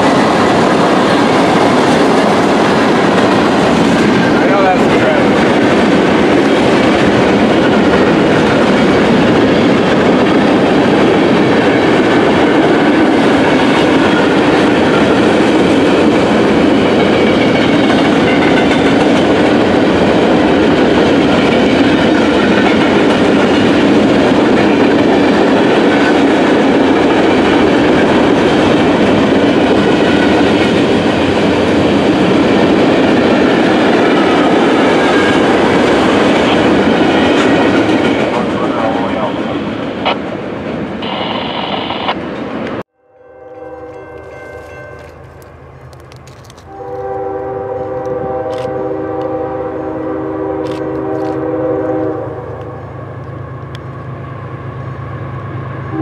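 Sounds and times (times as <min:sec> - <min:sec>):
freight train cars rolling on rails: 0:00.0 - 0:42.8, 0:43.7 - 0:56.0.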